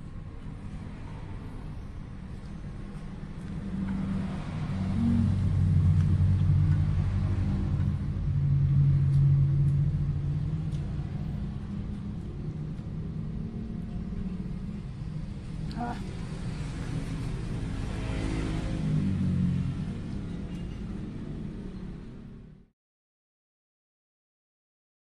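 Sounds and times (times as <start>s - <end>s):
motor vehicle engine rumble: 0.0s - 22.7s.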